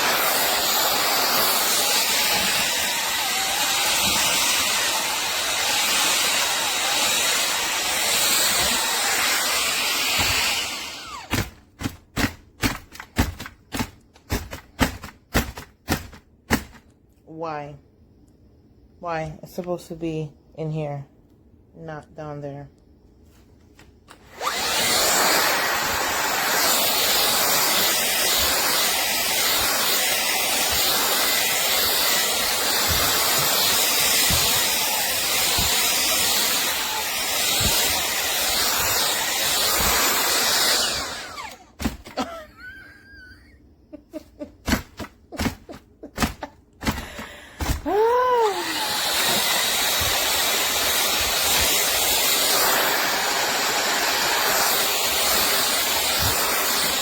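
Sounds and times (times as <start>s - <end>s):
vacuum cleaner running: 0.0s - 16.8s, 23.8s - 43.6s, 44.2s - 57.0s.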